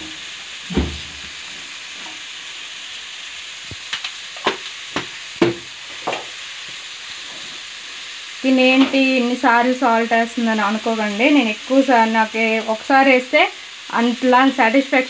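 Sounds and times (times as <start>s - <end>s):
curry sizzling in a pan: 0.0s - 15.0s.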